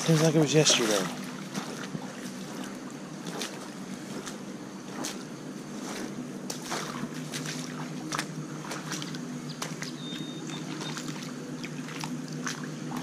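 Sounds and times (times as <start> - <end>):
creek water running: 0.0 - 13.0
footsteps on wet gravel: 0.0 - 13.0.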